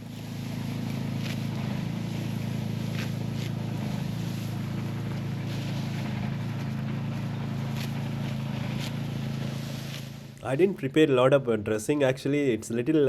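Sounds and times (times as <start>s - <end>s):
harvester engine humming: 0.0s - 13.0s.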